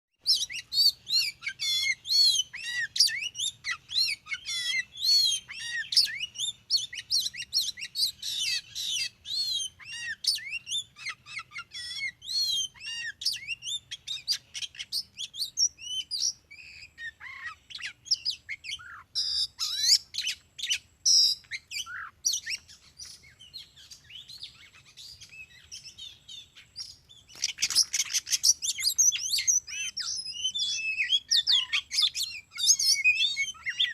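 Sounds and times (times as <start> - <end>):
bird song whistles and chirps: 0.2 - 33.9.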